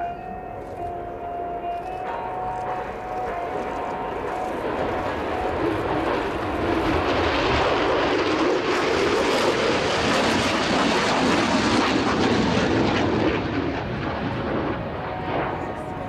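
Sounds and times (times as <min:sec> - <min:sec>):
jet roar: 0:02.6 - 0:16.0.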